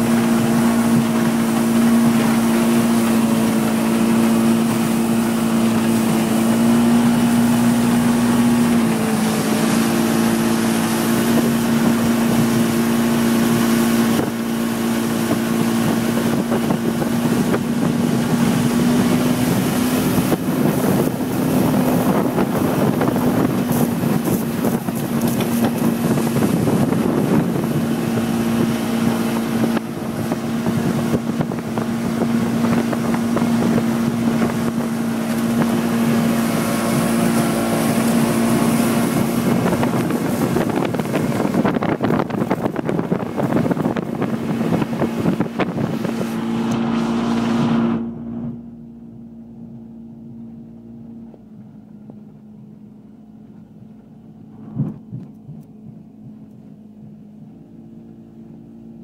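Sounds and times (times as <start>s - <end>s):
wake spray rushing: 0.0s - 49.7s
wind on microphone: 0.0s - 52.7s, 53.7s - 58.0s
outboard motor droning: 0.0s - 59.0s.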